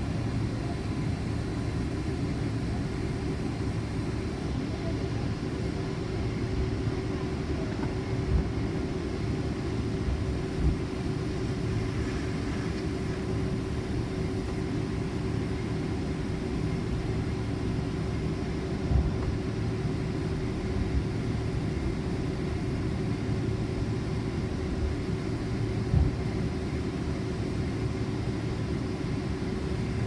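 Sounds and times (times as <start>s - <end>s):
airplane cabin rumble: 0.0s - 30.0s
constant hum: 0.0s - 30.0s.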